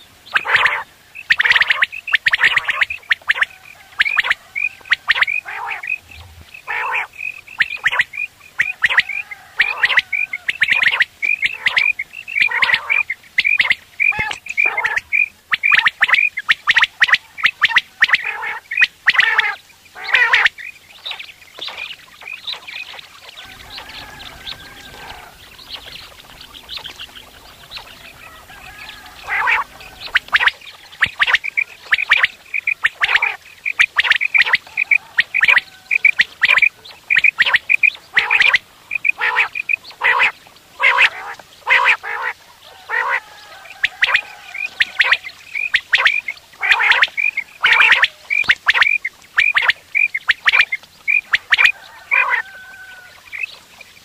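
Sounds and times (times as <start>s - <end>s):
quail calling: 0.0s - 53.6s.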